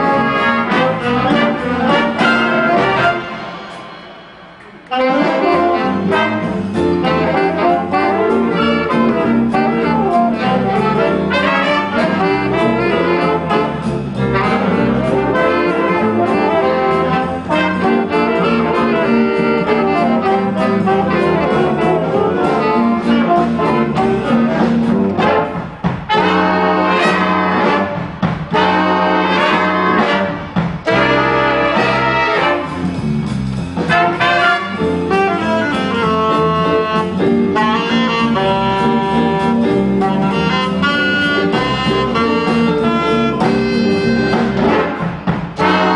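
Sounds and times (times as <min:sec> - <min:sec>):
big band jazz playing loudly: 0:00.0 - 0:45.9.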